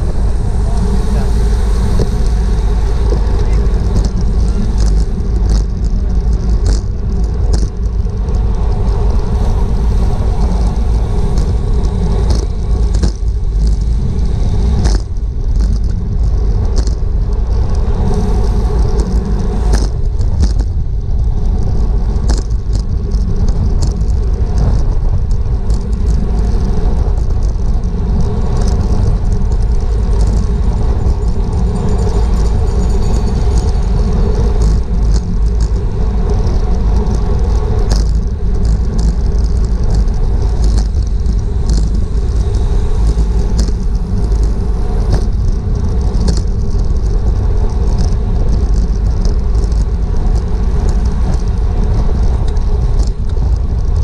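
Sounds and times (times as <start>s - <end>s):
wind rumbling on microphone: 0.0s - 54.0s
bicycle clicks and rattles: 1.2s - 54.0s.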